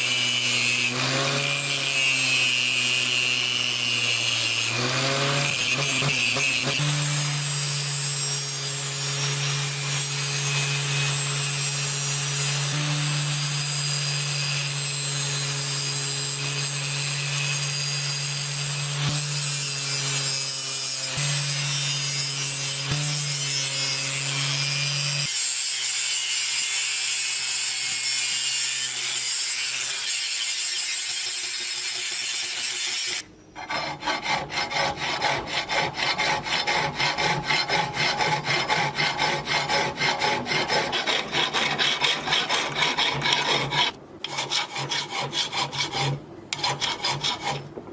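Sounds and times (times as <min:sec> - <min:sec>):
power tool grinding steel: 0:00.0 - 0:47.8.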